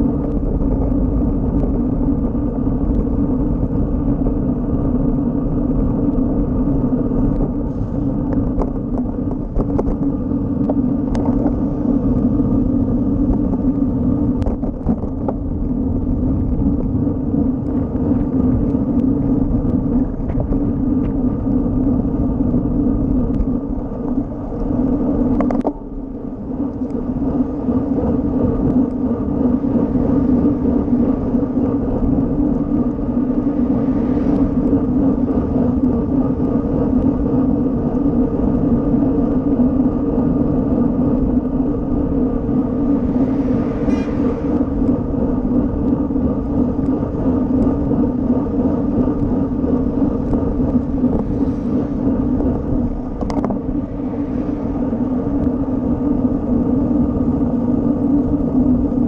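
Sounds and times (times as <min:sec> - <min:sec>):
bicycle tyre road noise: 0:00.0 - 0:59.0
wind rushing past camera: 0:00.0 - 0:59.0.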